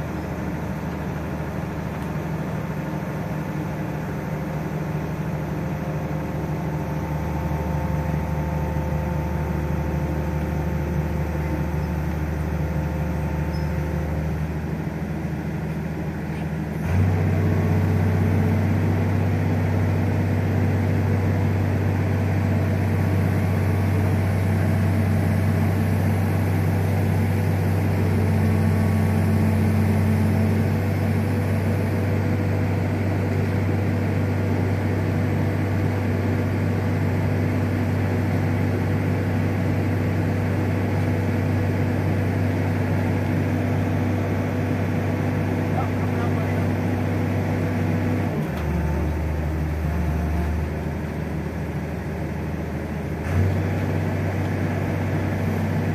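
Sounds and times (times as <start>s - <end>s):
crane engine running: 0.0s - 55.9s.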